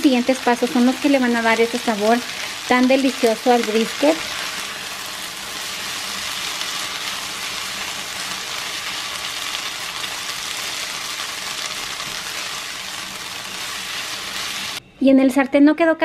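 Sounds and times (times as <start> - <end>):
onions sizzling in oil: 0.0 - 14.8.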